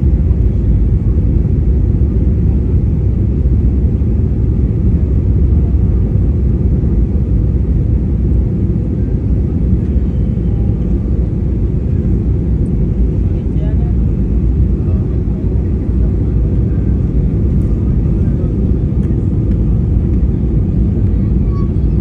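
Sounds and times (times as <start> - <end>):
airliner engine rumble: 0.0 - 22.0.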